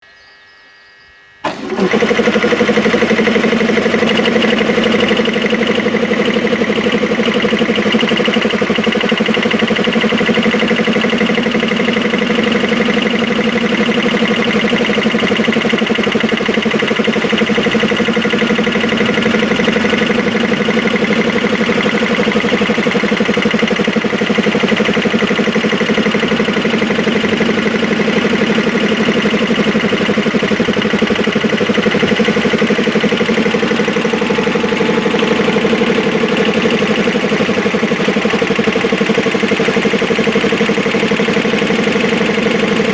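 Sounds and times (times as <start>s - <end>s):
air compressor pulsing: 1.2s - 42.9s.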